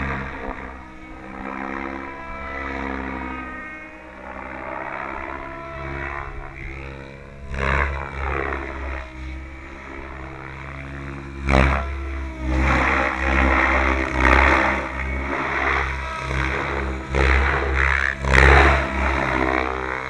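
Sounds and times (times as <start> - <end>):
helicopter blade swooshes: 0.0 - 20.0
rc helicopter motor whine: 0.0 - 20.0.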